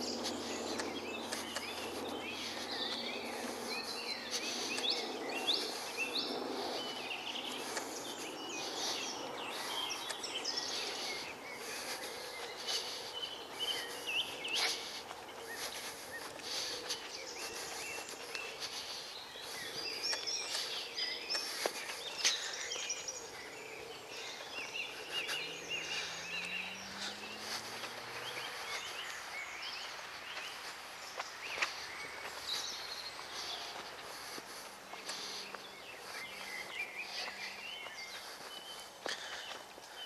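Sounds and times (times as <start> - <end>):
birds singing and calling: 0.0 - 40.0.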